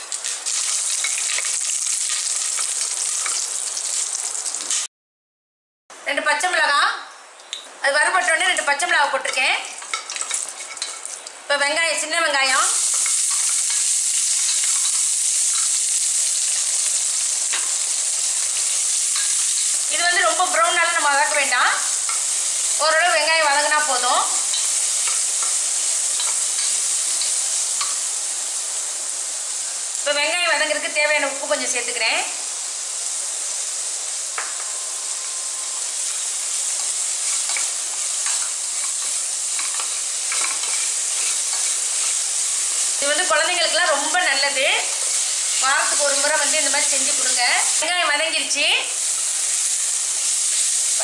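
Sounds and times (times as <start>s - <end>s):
shallots sizzling in hot oil: 0.0s - 4.9s, 8.0s - 51.0s.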